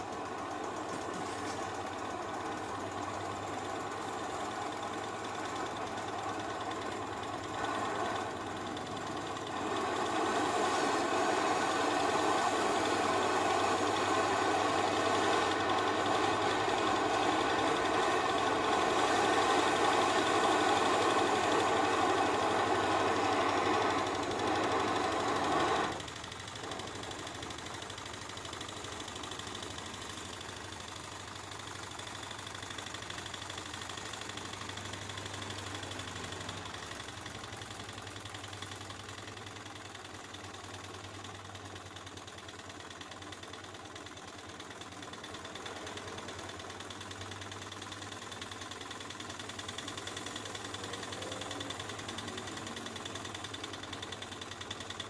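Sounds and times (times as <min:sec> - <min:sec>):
stirling engine ticking: 0:00.0 - 0:55.0.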